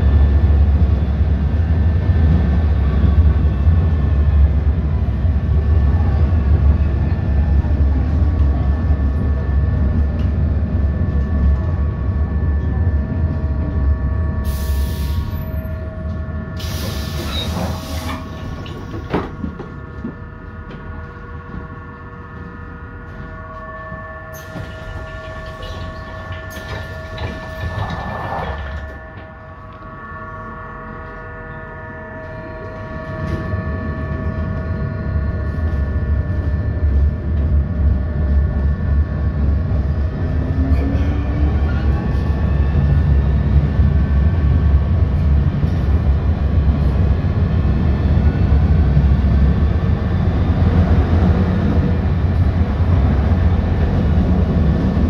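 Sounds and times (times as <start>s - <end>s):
tram motor whine: 0.0s - 55.0s
tram wheel and motor rumble: 0.0s - 55.0s.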